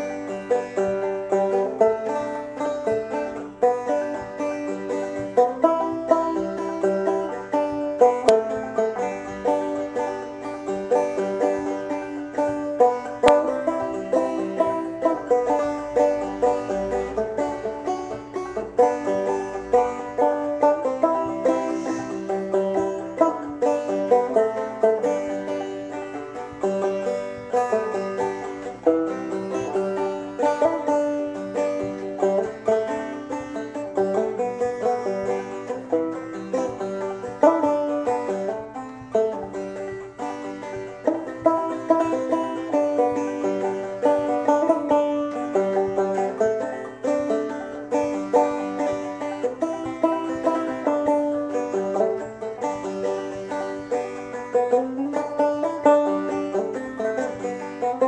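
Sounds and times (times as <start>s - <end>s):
clawhammer banjo playing: 0.0s - 58.0s.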